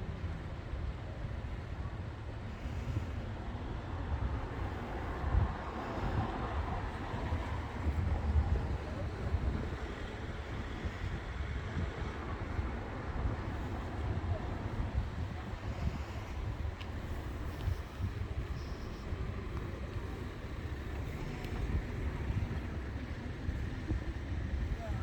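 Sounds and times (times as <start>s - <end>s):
rumble of vehicles: 0.0s - 25.0s
wind buffeting microphone: 0.0s - 25.0s.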